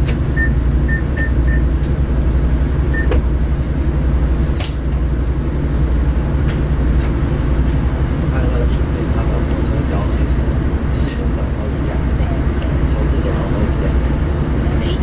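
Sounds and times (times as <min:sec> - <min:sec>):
railcar rumbling: 0:00.0 - 0:15.0.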